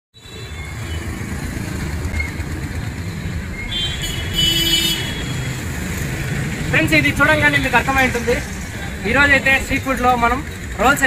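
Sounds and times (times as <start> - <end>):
motorbike engines running: 0.2 - 11.0.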